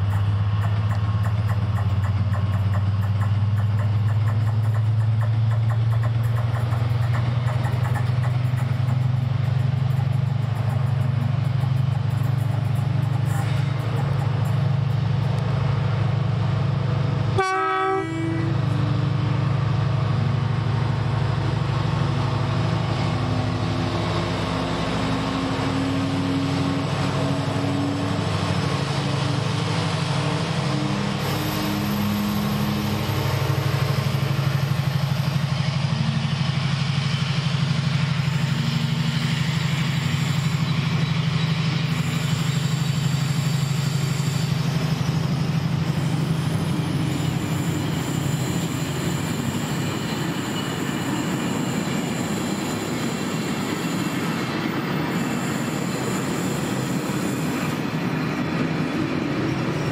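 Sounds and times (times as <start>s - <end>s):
train low drone: 0.0s - 59.9s.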